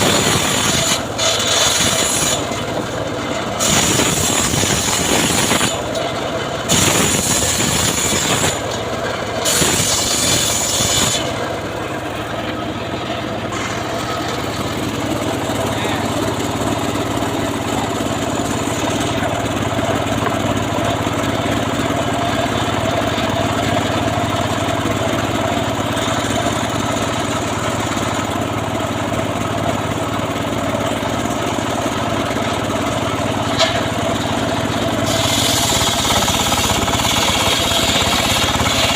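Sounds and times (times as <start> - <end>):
sawmill harsh bursts: 0.0 - 38.9
sawmill running hum: 0.0 - 38.9.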